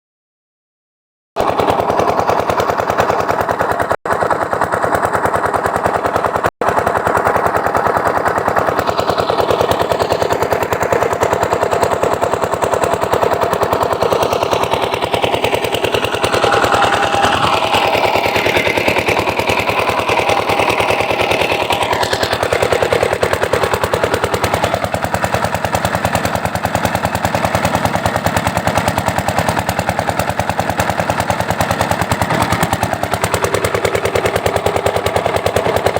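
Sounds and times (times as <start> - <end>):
diesel engine running: 1.4 - 35.9.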